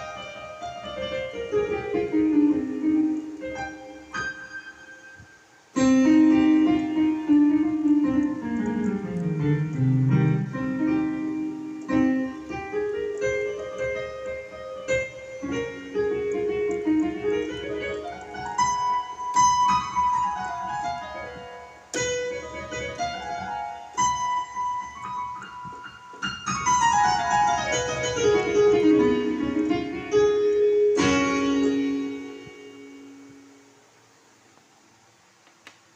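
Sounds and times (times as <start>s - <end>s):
synthesizer piano notes and runs: 0.0s - 35.3s.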